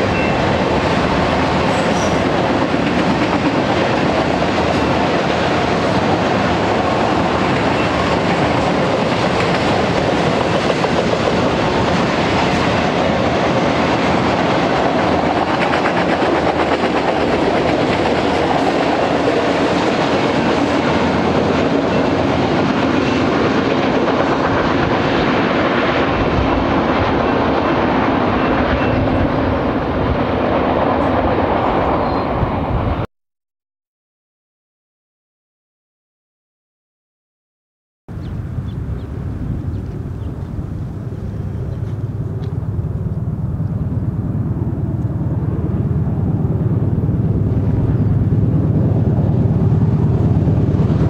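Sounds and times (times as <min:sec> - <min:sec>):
freight train rolling past: 0:00.0 - 0:33.0, 0:38.1 - 0:51.0.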